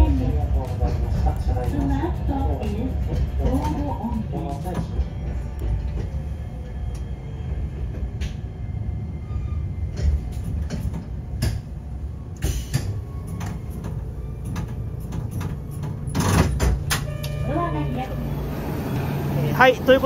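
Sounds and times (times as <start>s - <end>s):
tram rumbling on track: 0.0s - 20.0s.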